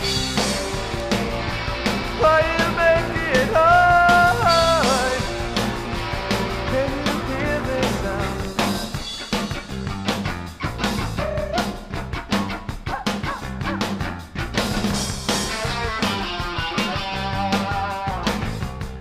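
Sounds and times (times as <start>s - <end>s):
indie rock band playing: 0.0s - 19.0s.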